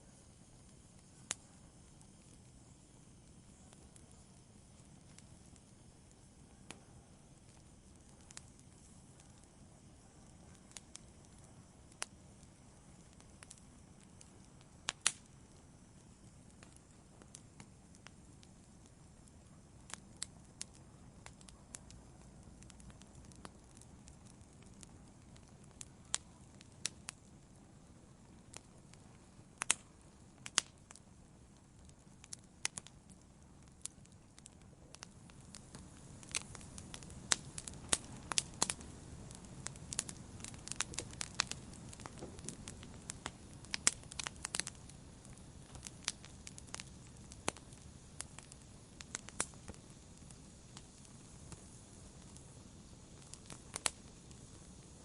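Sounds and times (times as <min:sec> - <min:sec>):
campfire crackling and popping: 0:00.0 - 0:55.0
rush of flames: 0:00.1 - 0:55.0.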